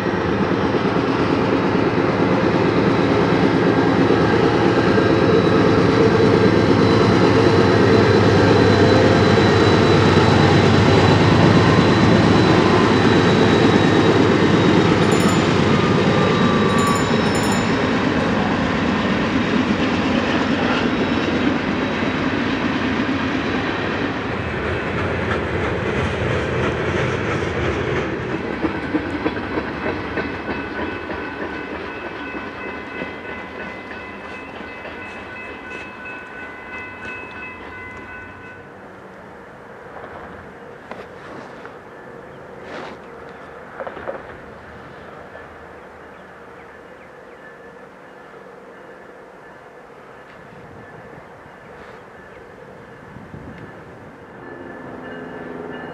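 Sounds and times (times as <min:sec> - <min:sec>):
locomotive engine running: 0:00.0 - 0:46.6
rumble of freight cars on rails: 0:00.0 - 0:55.9.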